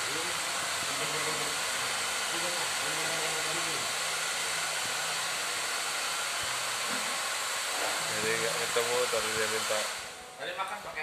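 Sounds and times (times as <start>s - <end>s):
electric blower hissing: 0.0s - 10.3s.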